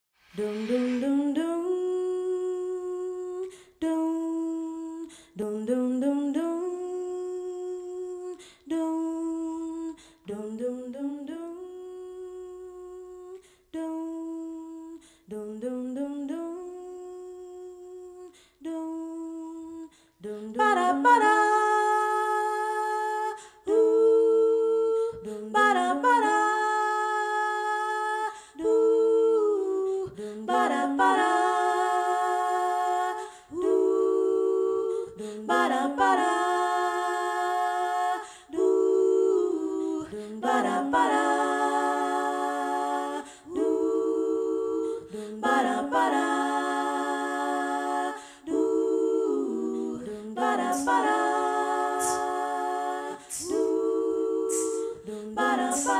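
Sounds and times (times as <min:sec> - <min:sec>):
layered voices singing chords: 0:00.2 - 0:55.9.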